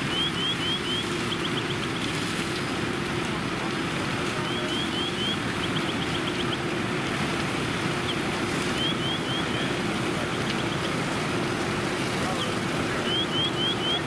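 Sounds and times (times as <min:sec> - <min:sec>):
fire engine running: 0:00.0 - 0:14.0
rushing fire and hose streams: 0:00.0 - 0:14.0.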